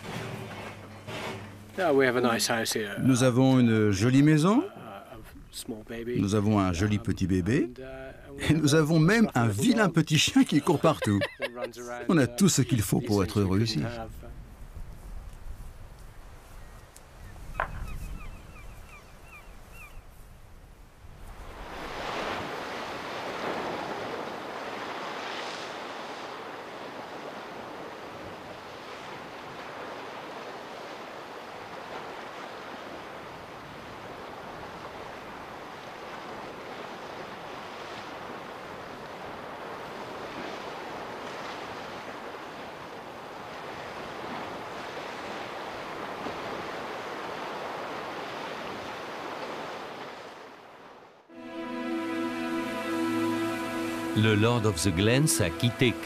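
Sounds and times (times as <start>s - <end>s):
sea waves washing: 0.0s - 18.0s, 20.9s - 56.0s
wind: 0.0s - 56.0s.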